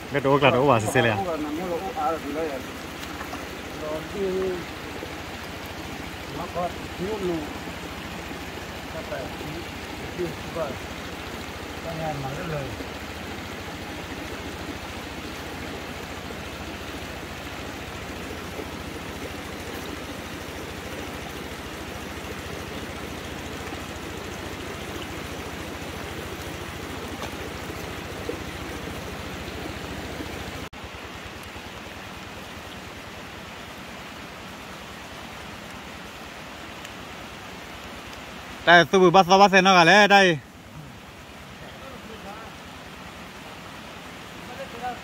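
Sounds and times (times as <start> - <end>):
water hissing across paddy: 0.0 - 45.0.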